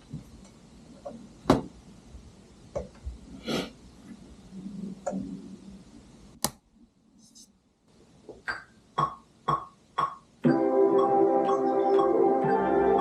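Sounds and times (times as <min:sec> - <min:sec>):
faint low hum: 0:00.0 - 0:11.6.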